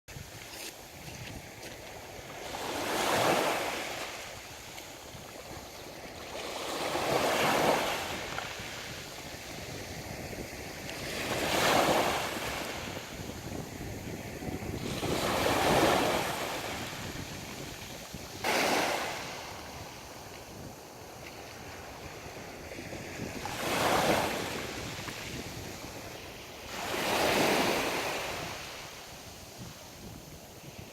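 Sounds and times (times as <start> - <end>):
sea waves breaking on shore: 0.1 - 30.9
steady surf: 0.1 - 30.9.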